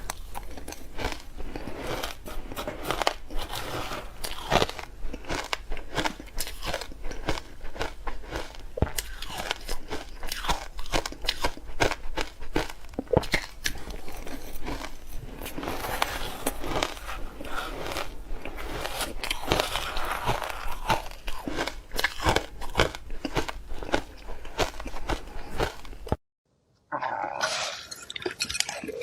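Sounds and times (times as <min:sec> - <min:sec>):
grinding crunches of chewed ice: 0:00.0 - 0:26.2.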